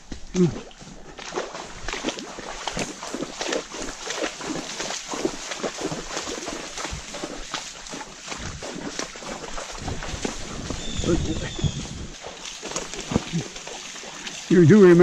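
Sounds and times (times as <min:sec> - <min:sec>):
horse hooves on muddy trail: 0:00.0 - 0:15.0.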